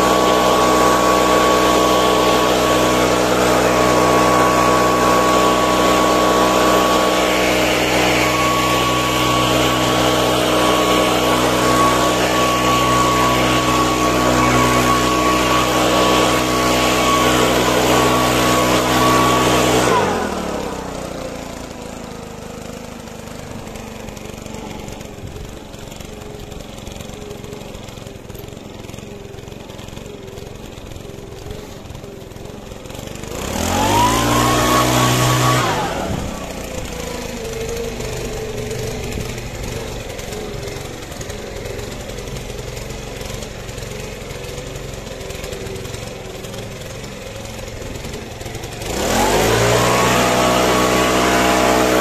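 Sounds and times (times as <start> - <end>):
small petrol engine idling and revving: 0.0 - 52.0.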